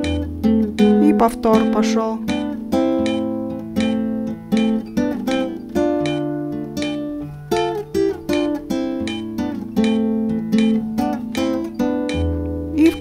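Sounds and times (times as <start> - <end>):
classical guitar fingerstyle: 0.0 - 13.0.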